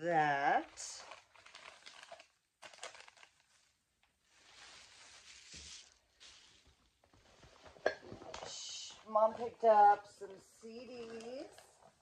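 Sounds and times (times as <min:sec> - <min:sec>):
wrapping and bag rustling: 0:00.3 - 0:12.0.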